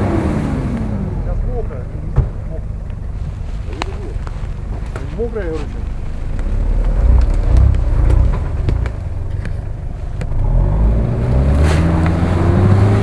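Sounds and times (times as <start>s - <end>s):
engine revving under load: 0.0s - 13.0s.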